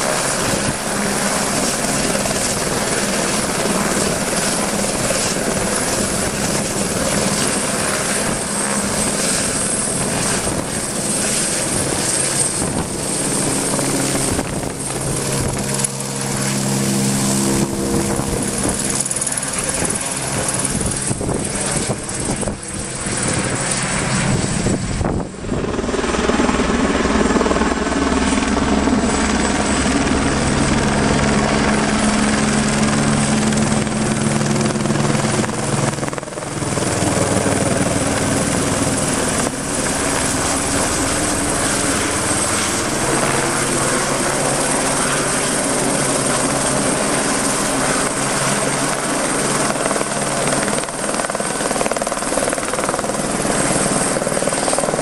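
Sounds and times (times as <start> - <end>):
helicopter rotor noise: 0.0 - 55.0
high turbine whine: 0.0 - 55.0.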